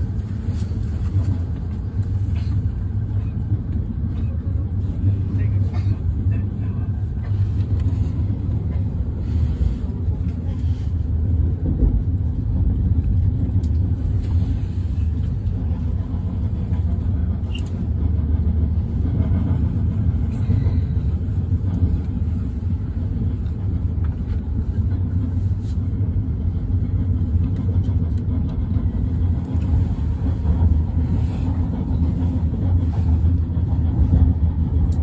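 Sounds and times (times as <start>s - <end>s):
train rumbling inside carriage: 0.0s - 35.0s.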